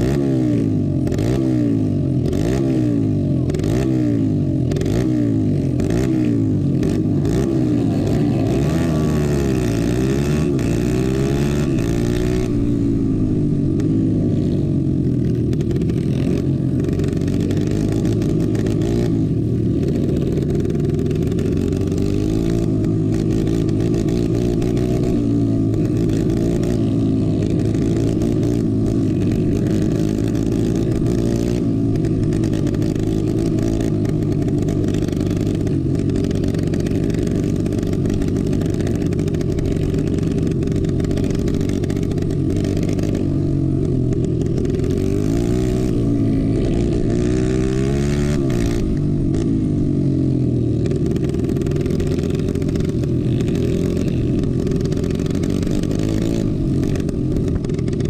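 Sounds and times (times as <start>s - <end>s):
racing kart engines: 0.0s - 58.0s.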